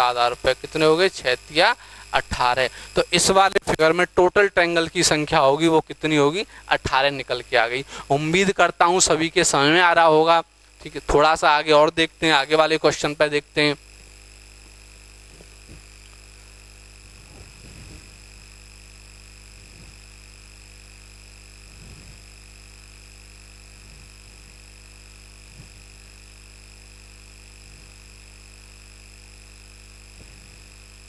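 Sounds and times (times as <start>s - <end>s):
electrical hum with high whines: 0.0s - 31.0s.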